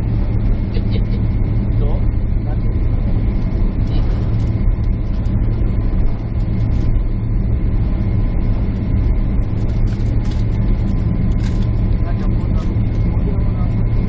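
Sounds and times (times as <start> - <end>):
deep hum: 0.0 - 14.0
jet airliner cabin drone: 0.0 - 14.0.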